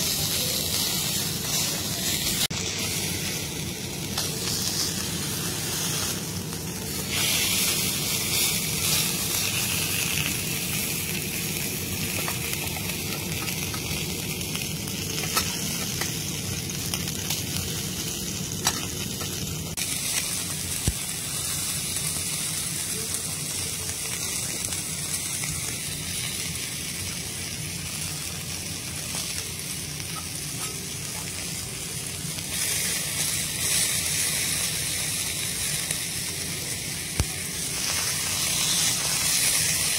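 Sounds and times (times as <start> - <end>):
steak sizzling on griddle: 0.0 - 39.9.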